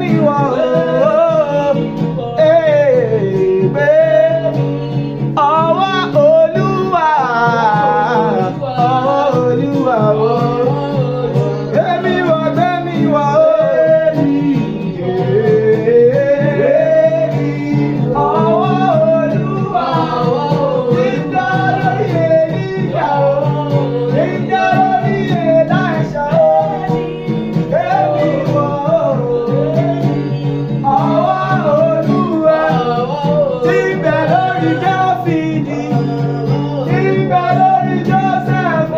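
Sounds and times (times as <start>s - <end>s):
gospel song with singing voice: 0.0s - 38.9s.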